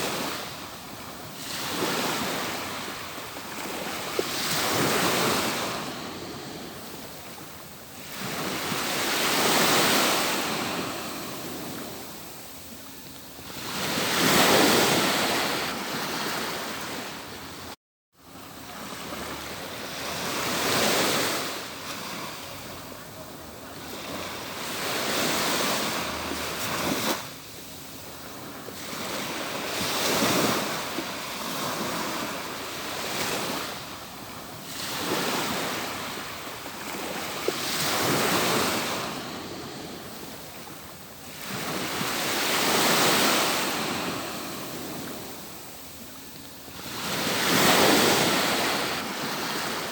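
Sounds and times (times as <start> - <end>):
ocean waves breaking on beach: 0.0 - 49.9.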